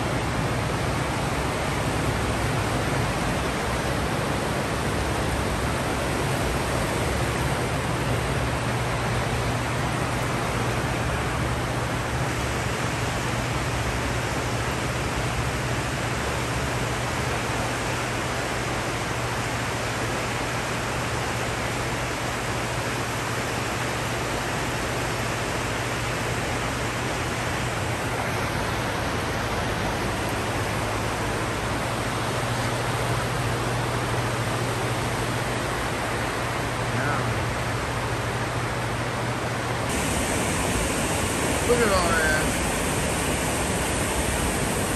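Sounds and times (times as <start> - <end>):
floodwater rushing on concrete: 0.0 - 44.9.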